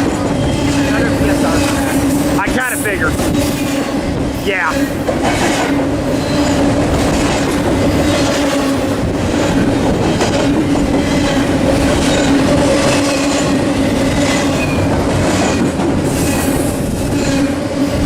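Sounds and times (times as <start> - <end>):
freight train rumbling past: 0.0 - 18.0.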